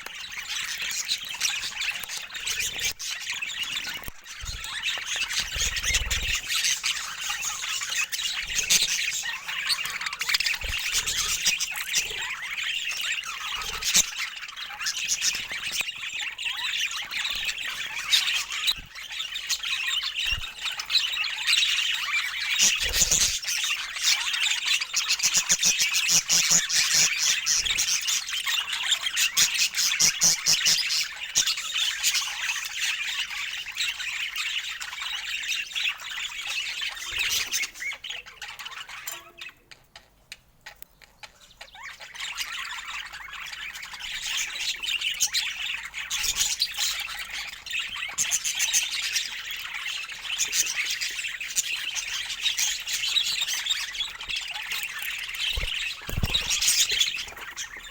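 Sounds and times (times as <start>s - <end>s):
budgerigars chattering: 0.0s - 57.9s.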